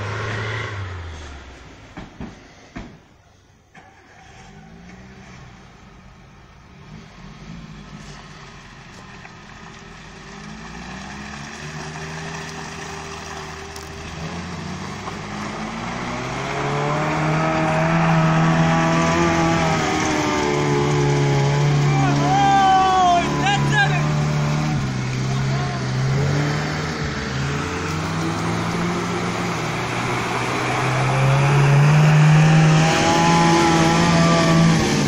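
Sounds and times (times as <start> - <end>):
car engine revving: 0.0 - 2.1, 3.8 - 35.0.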